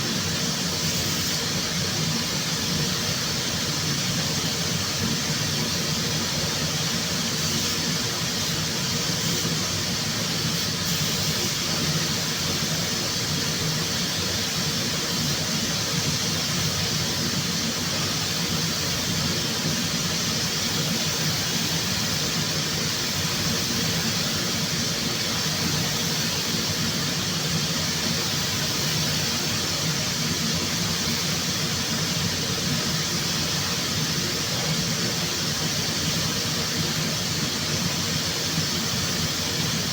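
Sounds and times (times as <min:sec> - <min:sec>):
rushing air hiss: 0:00.0 - 0:39.9.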